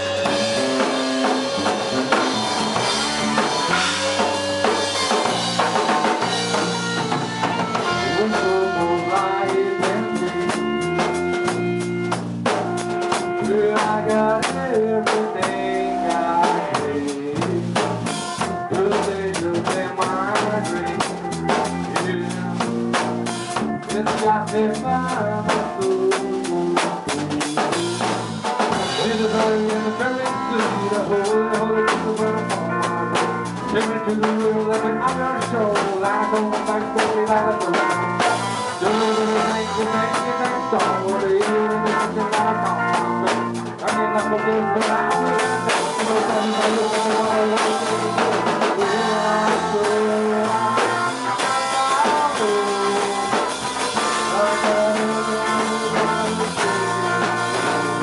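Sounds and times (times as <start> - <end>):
harmonica lead line: 0.0 - 58.0
rock band playing live: 0.0 - 58.0.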